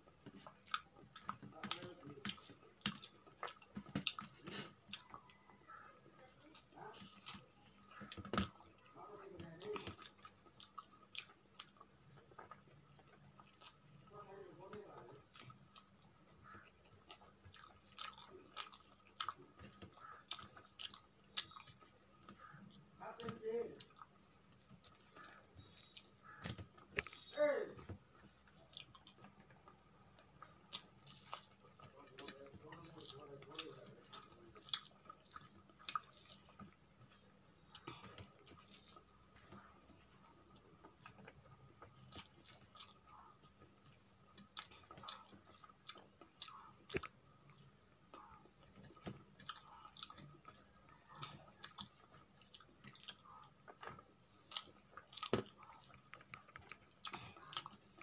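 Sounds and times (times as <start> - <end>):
close-up chewing and mouth clicks: 0.0 - 58.0.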